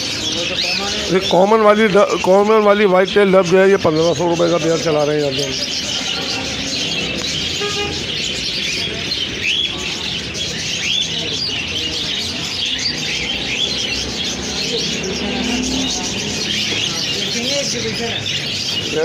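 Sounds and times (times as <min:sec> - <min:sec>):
sharp upward-sweeping bird calls: 0:00.0 - 0:19.0
small birds chirping: 0:00.0 - 0:19.0.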